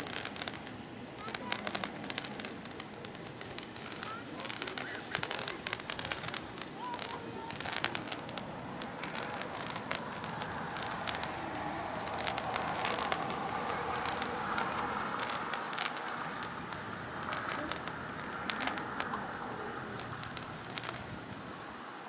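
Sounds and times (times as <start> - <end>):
wind on microphone: 0.0 - 21.9
distant fireworks popping and crackling: 0.0 - 22.0.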